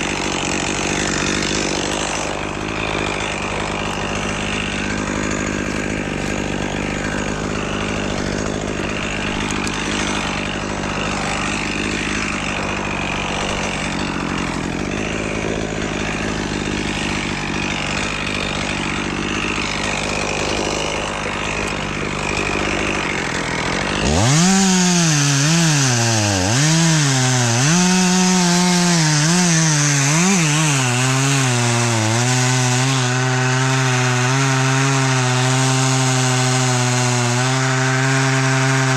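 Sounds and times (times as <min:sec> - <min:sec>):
chainsaw cutting tree trunk: 0:00.0 - 0:38.9
chainsaw revving up and down: 0:00.0 - 0:38.9.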